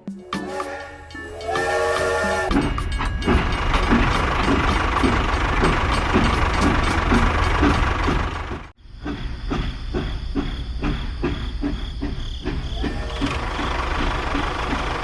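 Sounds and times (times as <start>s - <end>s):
vehicle engine chugging: 0.4s - 15.0s.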